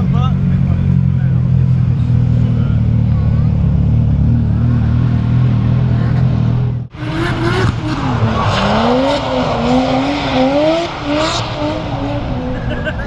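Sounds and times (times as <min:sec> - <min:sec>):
drift car engine revving: 0:00.0 - 0:13.0
loud low engine rumble: 0:00.0 - 0:13.0.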